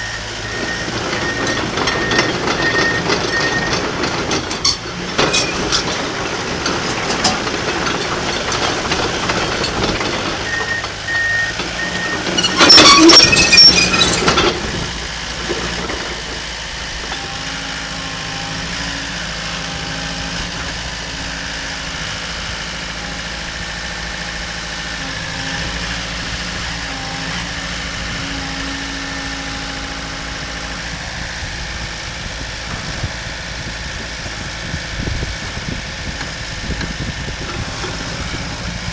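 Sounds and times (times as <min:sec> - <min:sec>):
bulldozer diesel engine running: 0:00.0 - 0:38.9
metallic clanking and squealing: 0:00.0 - 0:38.9.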